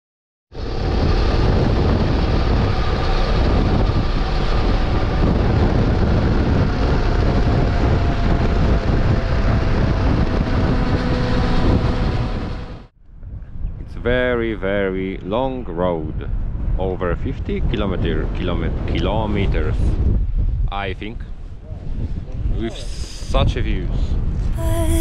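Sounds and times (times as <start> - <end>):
wind rushing on microphone: 0.5 - 25.0.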